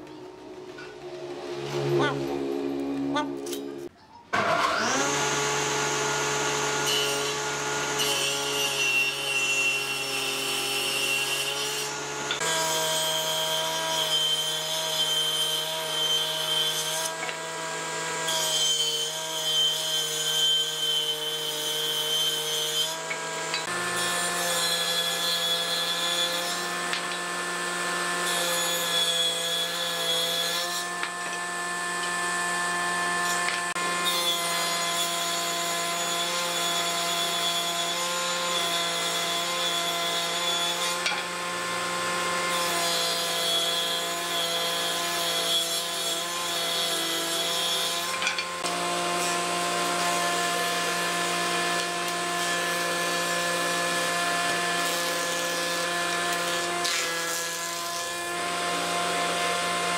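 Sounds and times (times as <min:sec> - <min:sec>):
circular saw ripping wood: 0:04.3 - 0:59.9.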